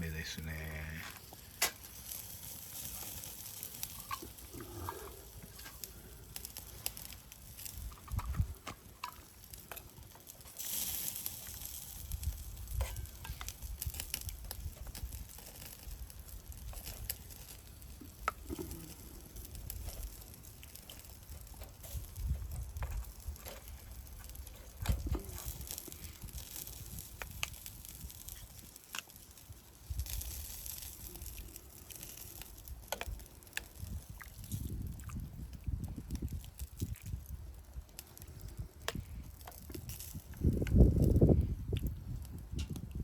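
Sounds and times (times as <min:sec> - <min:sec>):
wood fire crackling: 0:00.0 - 0:43.0
food sizzling: 0:00.1 - 0:37.2.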